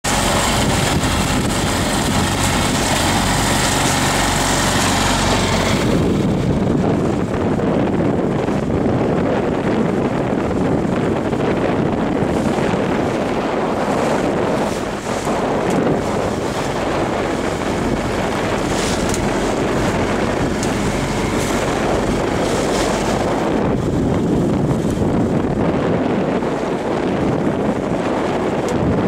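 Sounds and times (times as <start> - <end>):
outboard motor running: 0.0 - 29.0
water rushing along hull: 0.0 - 29.0
wind buffeting microphone: 0.0 - 29.0.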